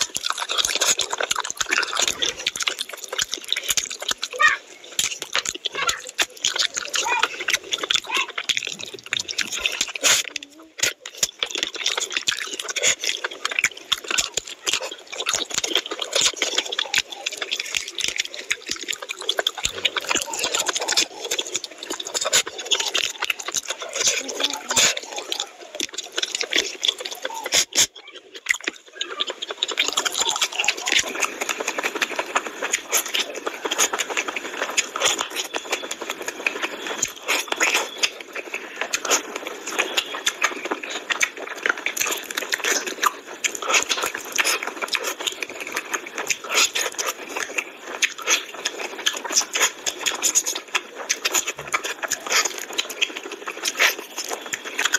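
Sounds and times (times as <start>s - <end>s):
lip smacking: 0.0s - 54.9s
wet chewing: 0.0s - 54.9s.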